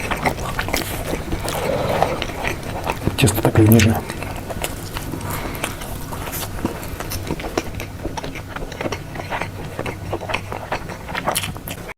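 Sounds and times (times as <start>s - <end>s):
crunching and chewing food: 0.0s - 11.9s.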